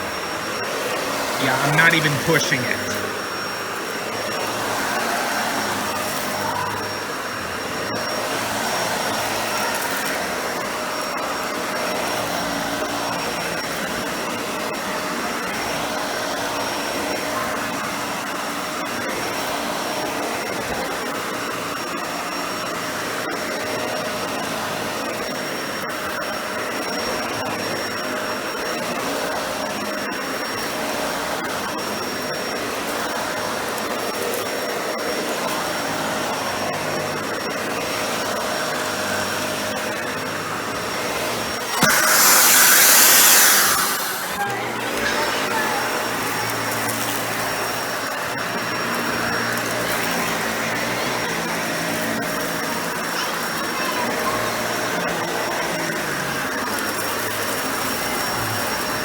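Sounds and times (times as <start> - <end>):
vacuum cleaner running: 0.0 - 1.4, 2.0 - 53.7.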